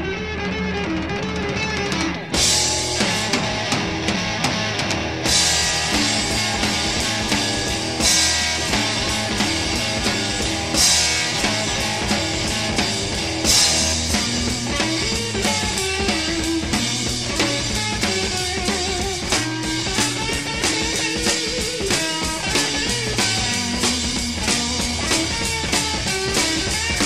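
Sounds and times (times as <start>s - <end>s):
blues-rock instrumental: 0.0s - 27.0s.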